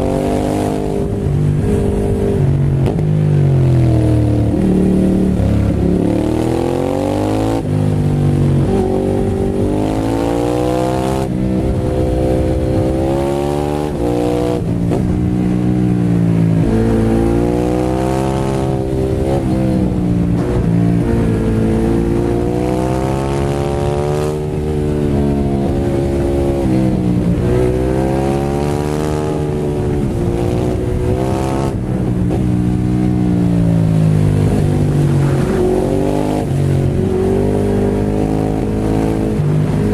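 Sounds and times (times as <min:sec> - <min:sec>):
low wind rush: 0:00.0 - 0:39.9
motorcycle engine revving: 0:00.0 - 0:39.9.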